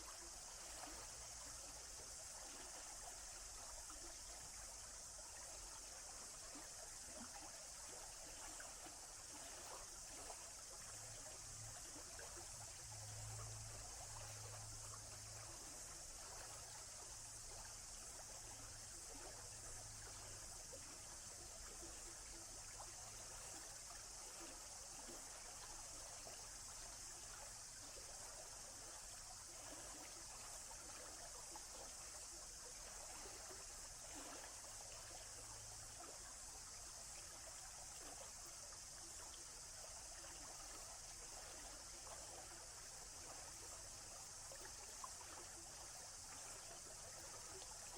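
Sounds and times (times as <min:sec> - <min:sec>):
stream trickling: 0:00.0 - 0:47.9.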